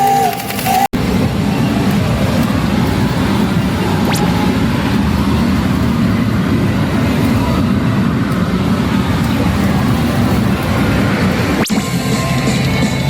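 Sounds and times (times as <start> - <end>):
din of gaming machines: 0.0 - 13.0.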